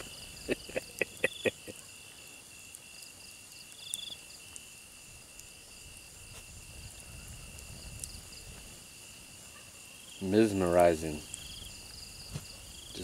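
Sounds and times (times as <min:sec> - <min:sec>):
campfire crackles: 0:00.0 - 0:13.0
night insects chirring: 0:00.0 - 0:13.0.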